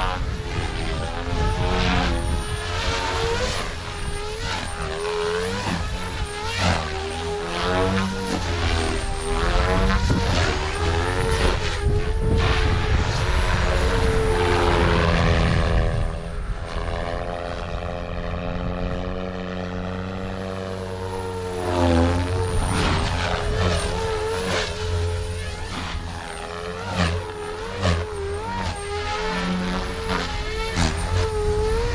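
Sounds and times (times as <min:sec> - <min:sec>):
rc helicopter rotor whine: 0:00.0 - 0:31.9
wind noise on microphone: 0:00.0 - 0:31.9.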